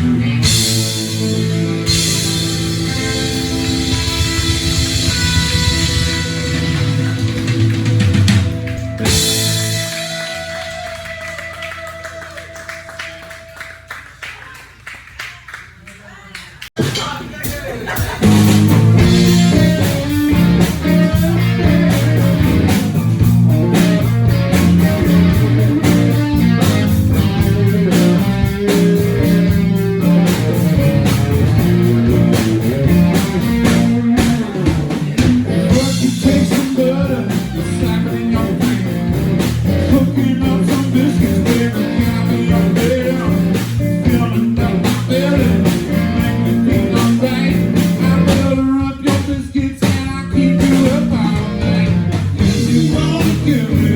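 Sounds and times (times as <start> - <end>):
electric guitar: 0.0 - 13.6, 18.2 - 53.9
bass line: 0.0 - 13.8, 18.0 - 53.9
blues rock band playing: 0.0 - 14.0, 16.8 - 53.9.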